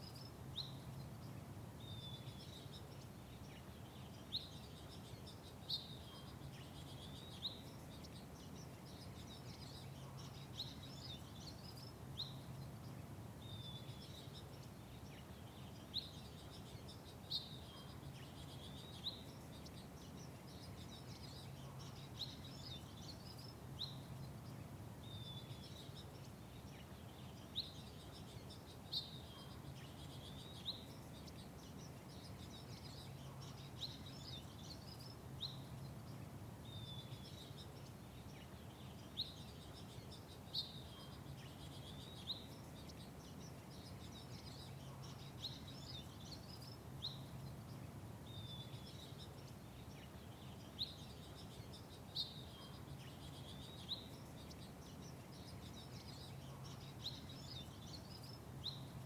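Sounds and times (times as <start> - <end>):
low background hum: 0.0 - 59.0
small birds chirping: 0.0 - 59.0.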